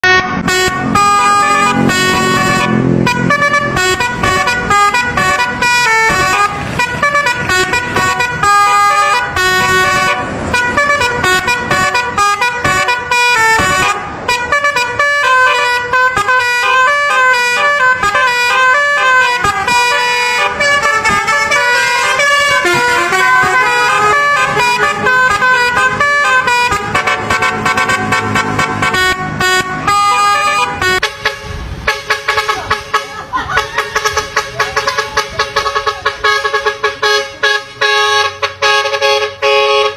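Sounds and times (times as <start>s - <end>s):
musical air horns melody: 0.0s - 39.9s.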